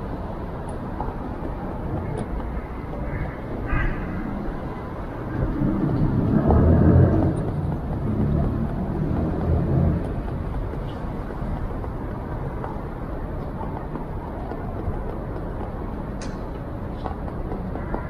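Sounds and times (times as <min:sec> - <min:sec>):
road vehicle passing rumble: 0:00.0 - 0:18.0.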